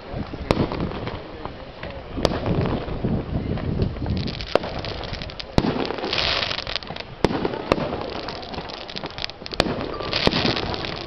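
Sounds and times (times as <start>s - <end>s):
continuous rumbling: 0.0s - 11.0s
dense crackling of fireworks: 0.0s - 11.0s
fireworks bangs: 0.2s - 11.0s.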